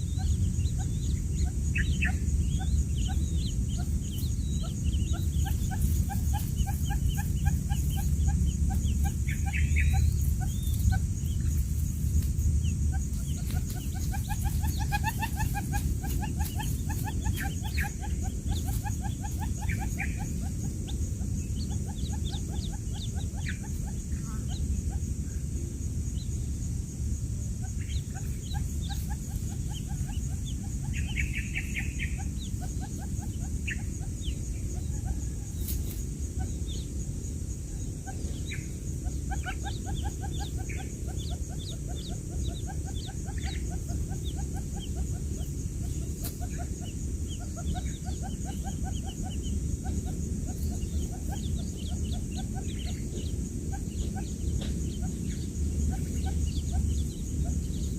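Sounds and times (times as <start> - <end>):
chicks peeping: 0.0 - 57.9
low background noise: 0.0 - 57.9.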